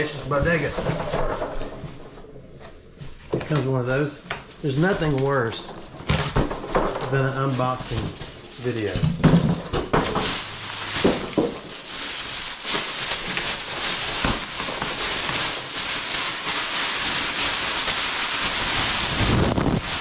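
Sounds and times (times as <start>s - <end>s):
plastic wrap crinkling: 0.0s - 20.0s.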